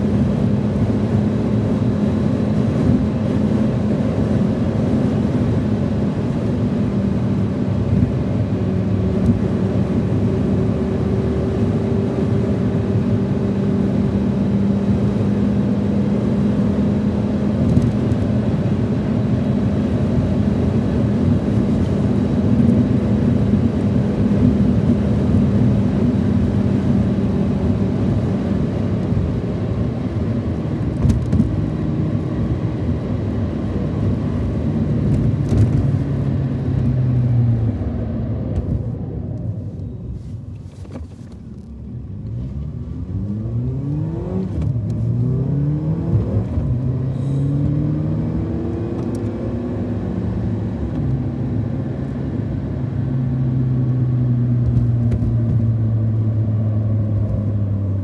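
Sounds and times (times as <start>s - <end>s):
car engine: 0.0s - 58.0s
road noise inside car: 0.0s - 58.0s.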